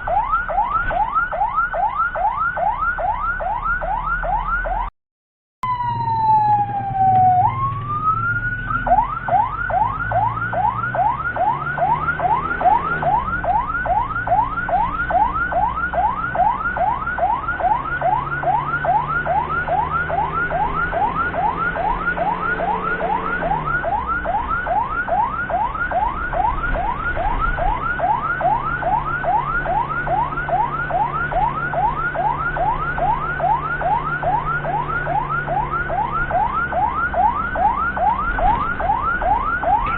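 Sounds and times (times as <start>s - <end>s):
ambulance siren wail and yelp: 0.0s - 4.9s, 5.6s - 39.9s
vehicle engine humming: 5.7s - 39.9s.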